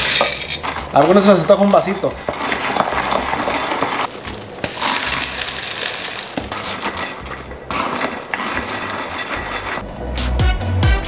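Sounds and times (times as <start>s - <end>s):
ice clinking against glass pitcher: 0.0s - 9.8s.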